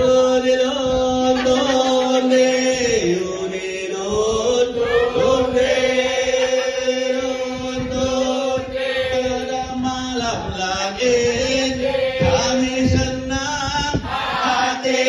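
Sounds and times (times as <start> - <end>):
man's voice on microphone: 0.0 - 14.9
group chanting: 1.4 - 15.0.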